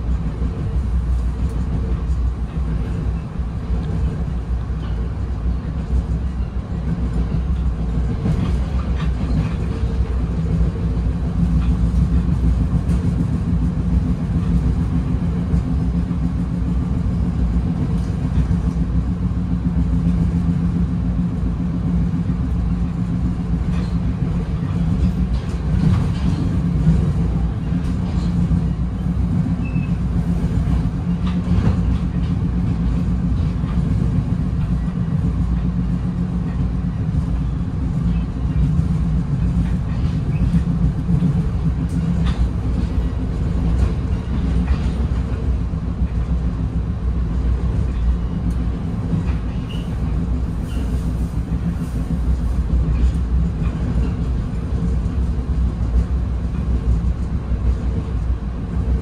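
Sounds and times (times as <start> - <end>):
train coach rumble and hum: 0.0 - 59.0.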